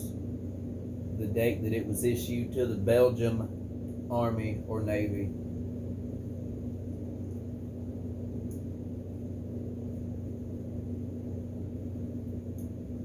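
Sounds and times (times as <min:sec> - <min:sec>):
low room hum with constant tone: 0:00.0 - 0:13.0.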